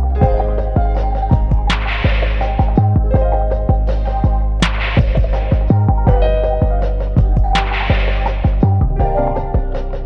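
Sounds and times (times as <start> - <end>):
music with bass and beat: 0.0 - 10.0.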